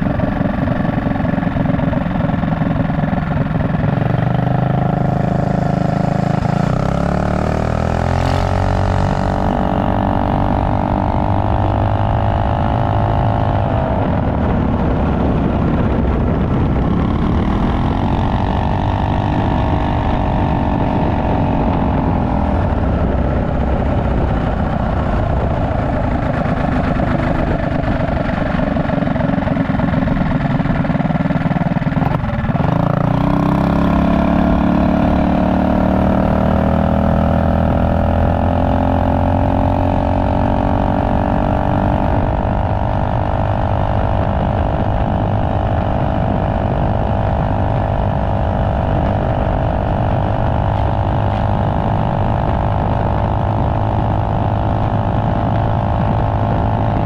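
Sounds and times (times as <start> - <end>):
minibike engine running: 0.0 - 57.0.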